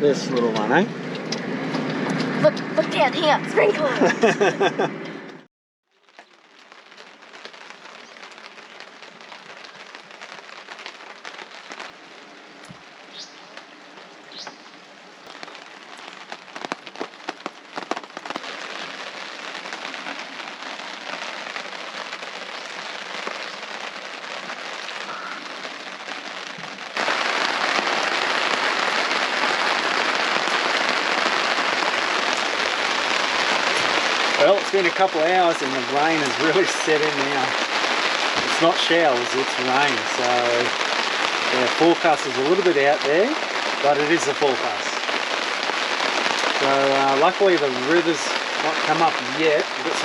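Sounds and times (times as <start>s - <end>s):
raindrops pattering: 0.0s - 50.0s
steady rain falling: 0.0s - 50.0s.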